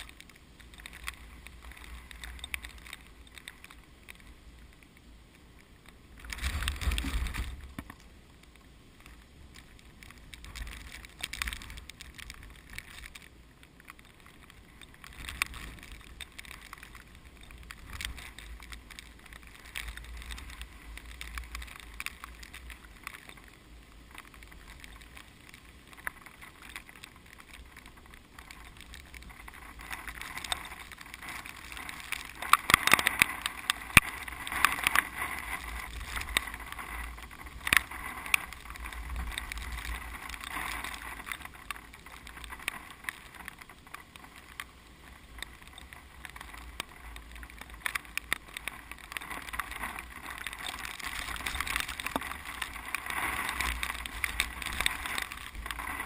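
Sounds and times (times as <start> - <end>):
sharp crackles: 0.0 - 56.0
wind rustling rice field: 0.0 - 56.0.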